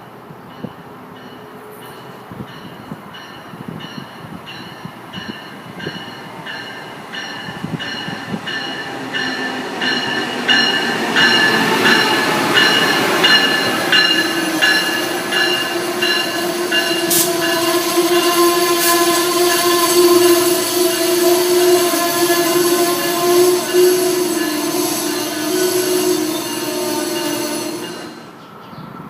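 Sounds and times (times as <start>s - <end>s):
train bell ringing: 0.0s - 28.3s
train rumble: 0.0s - 29.0s.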